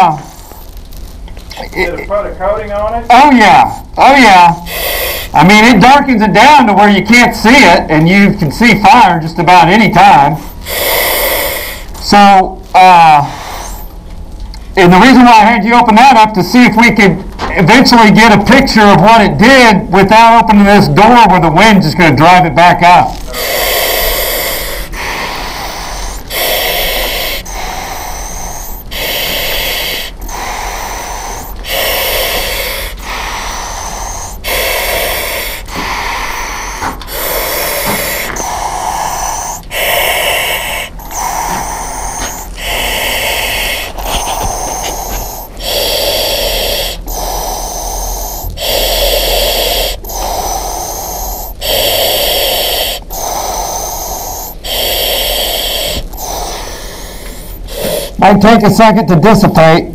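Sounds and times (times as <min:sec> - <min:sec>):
breathing through a face mask: 0:00.0 - 0:01.6, 0:03.6 - 0:07.8, 0:08.6 - 0:17.0, 0:22.9 - 0:59.1.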